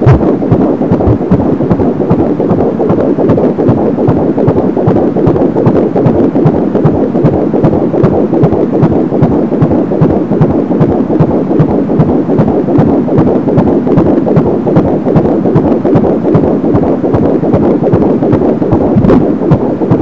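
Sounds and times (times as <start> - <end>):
fast heartbeat pulsing: 0.0 - 20.0
steady noisy background: 0.0 - 20.0.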